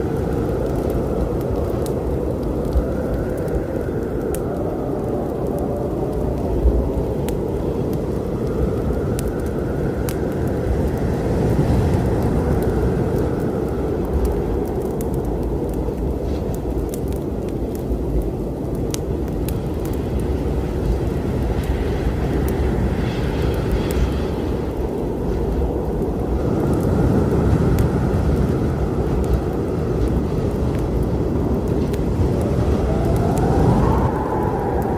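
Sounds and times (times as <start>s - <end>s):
low rumble of storm: 0.0s - 34.9s
wood fire crackling and popping: 0.0s - 34.9s.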